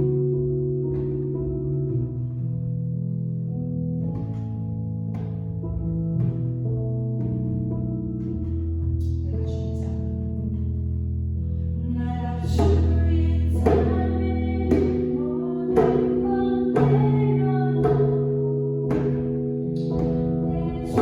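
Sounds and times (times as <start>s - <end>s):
keyboard chords: 0.0s - 21.0s.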